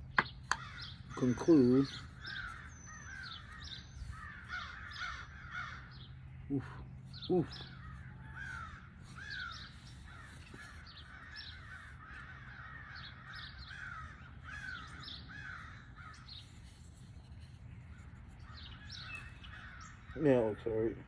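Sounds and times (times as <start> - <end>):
crows cawing: 0.2 - 6.8, 7.4 - 16.7, 18.4 - 20.6.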